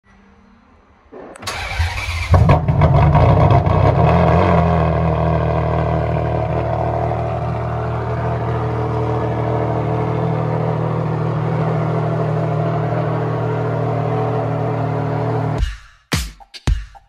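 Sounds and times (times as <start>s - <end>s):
car engine revving and idling: 1.4s - 15.6s.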